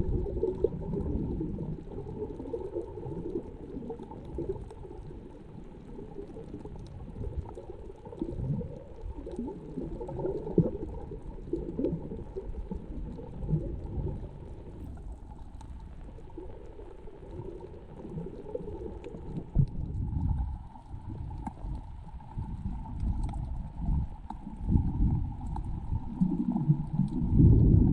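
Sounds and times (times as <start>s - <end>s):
muffled water sloshing and gurgling: 0.0s - 27.9s.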